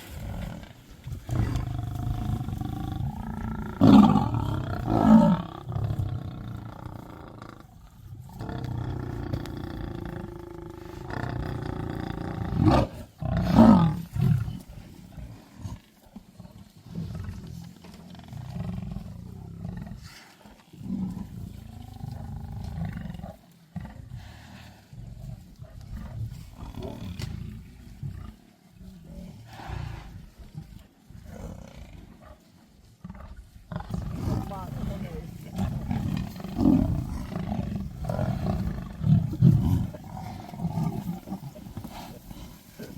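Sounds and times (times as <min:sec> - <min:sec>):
lions growling: 0:00.0 - 0:42.9.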